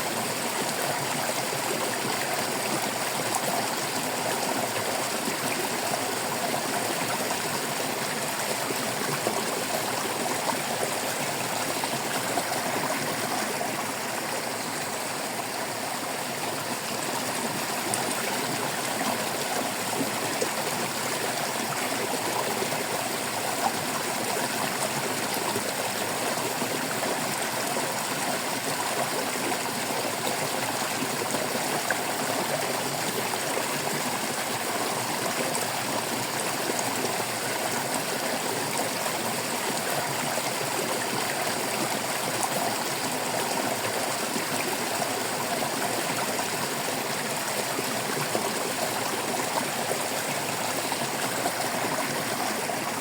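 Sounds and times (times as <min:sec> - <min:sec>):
stream water babbling: 0:00.0 - 0:53.0.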